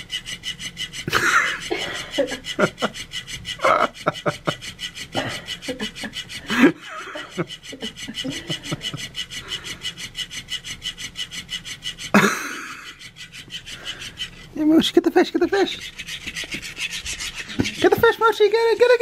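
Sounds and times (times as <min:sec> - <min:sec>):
toy tail flapping on fabric: 0:00.0 - 0:19.0.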